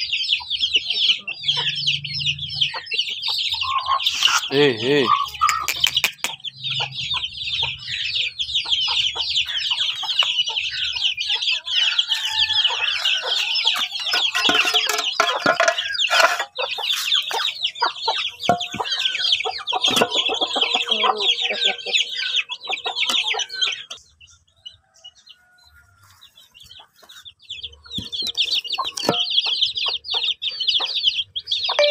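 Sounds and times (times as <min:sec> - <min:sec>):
chickens clucking: 0:00.0 - 0:31.9
chicks peeping: 0:00.0 - 0:31.9.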